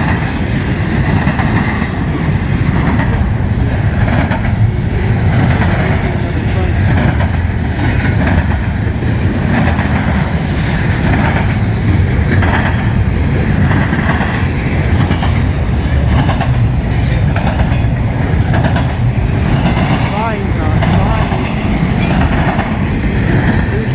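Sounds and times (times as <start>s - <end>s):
freight cars rumbling past: 0.0s - 23.9s
steel wheels clacking over rail joints: 0.0s - 23.9s.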